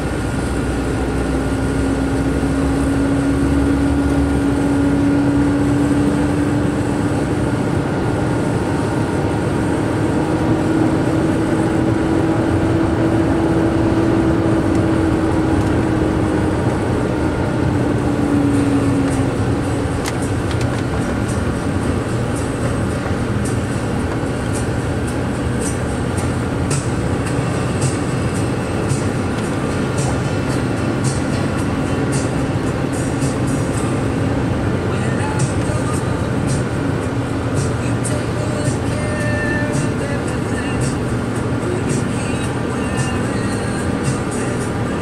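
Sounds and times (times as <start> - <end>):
droning tone: 0.0 - 45.0
truck engine and tyre noise: 0.0 - 45.0.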